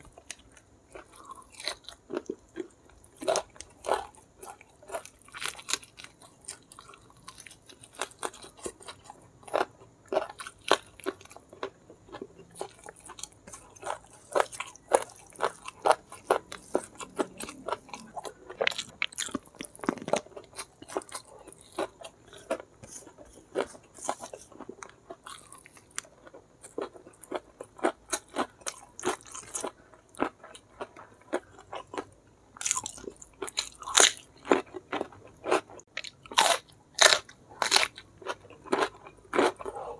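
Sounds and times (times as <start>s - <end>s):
cucumber crunching: 0.0s - 39.9s.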